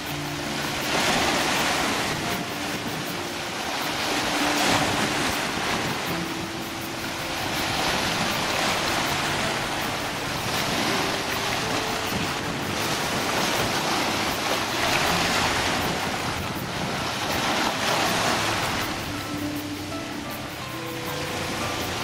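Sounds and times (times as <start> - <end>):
small waves washing on beach: 0.0 - 22.0.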